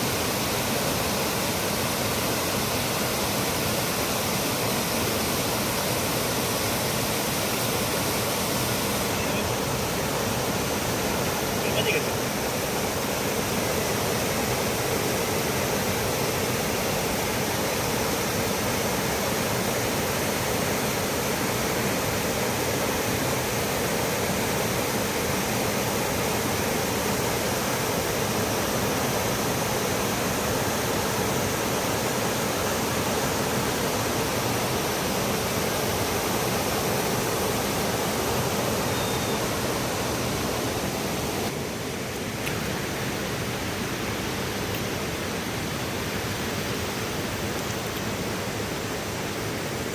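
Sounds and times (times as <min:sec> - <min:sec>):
river flowing: 0:00.0 - 0:49.9.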